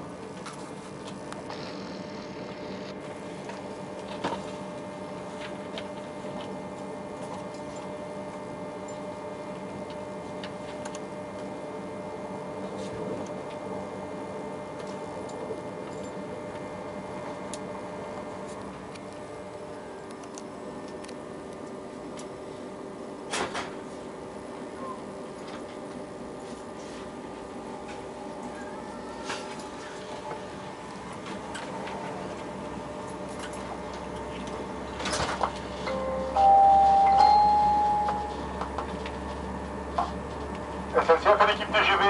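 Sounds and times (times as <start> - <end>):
train running hum: 0.0 - 42.0.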